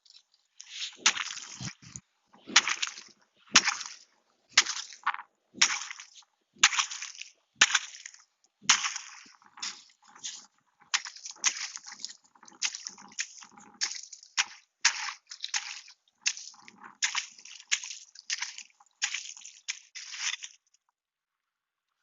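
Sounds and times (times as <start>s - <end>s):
footsteps crunching in slush: 0.0s - 8.2s, 8.8s - 20.7s.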